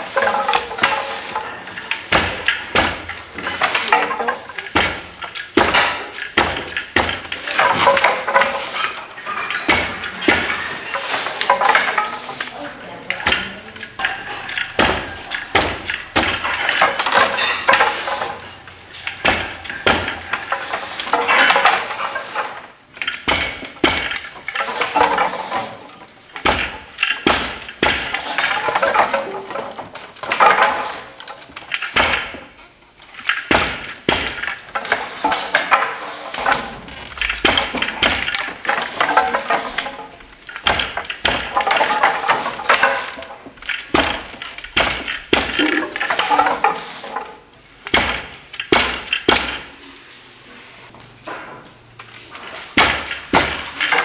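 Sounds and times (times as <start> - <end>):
wooden loom clattering: 0.0 - 49.8, 52.2 - 54.0.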